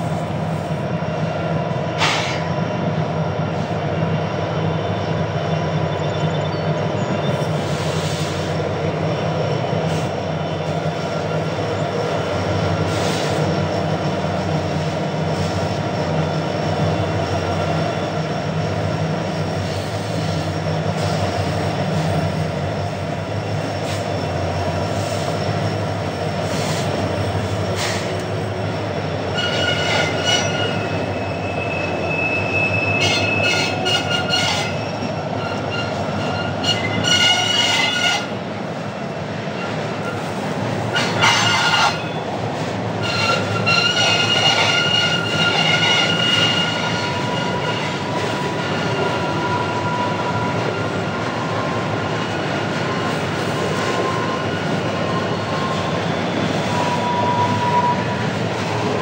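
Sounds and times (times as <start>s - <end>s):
diesel locomotive hum: 0.0s - 59.0s
high wheel squeal: 9.7s - 38.4s, 39.5s - 59.0s.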